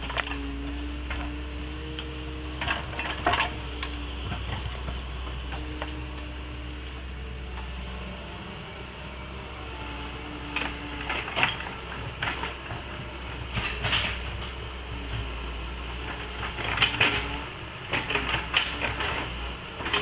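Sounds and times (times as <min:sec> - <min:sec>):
excavator engine drone: 0:00.0 - 0:20.0
hydraulic whine: 0:00.0 - 0:20.0.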